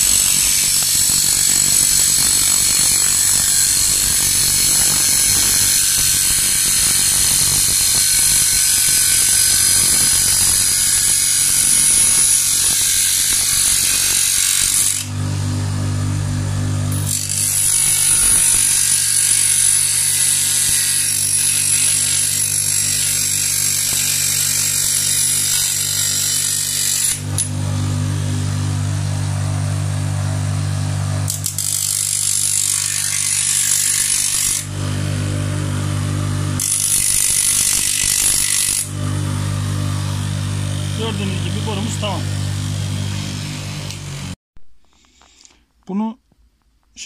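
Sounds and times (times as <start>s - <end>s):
grinder motor hum: 0.0s - 44.4s.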